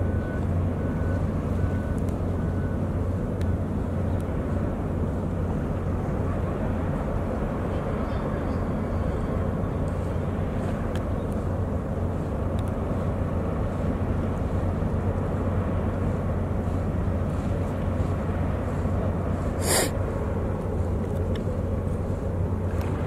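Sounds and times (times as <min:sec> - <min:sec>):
ferry diesel engines droning: 0:00.0 - 0:23.0.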